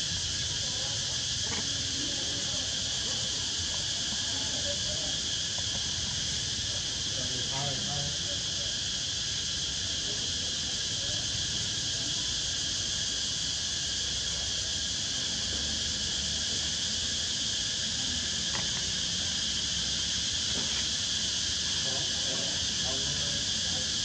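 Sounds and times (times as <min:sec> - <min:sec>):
insect chorus buzzing drone: 0:00.0 - 0:24.0.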